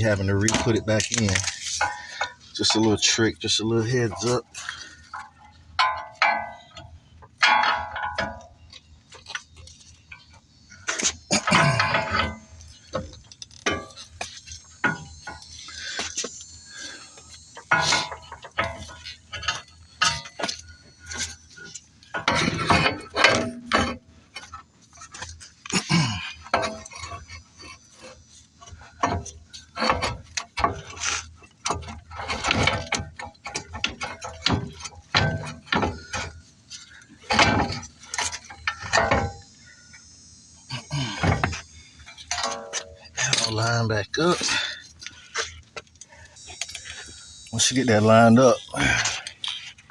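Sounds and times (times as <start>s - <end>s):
metallic clanks of hand tools: 0.0s - 49.9s.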